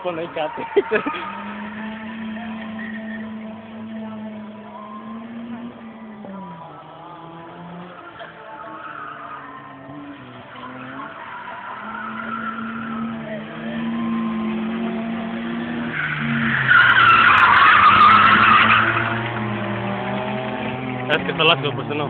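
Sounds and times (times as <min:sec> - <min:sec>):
tyres squealing: 0:00.0 - 0:19.6
car engine running: 0:00.0 - 0:22.0.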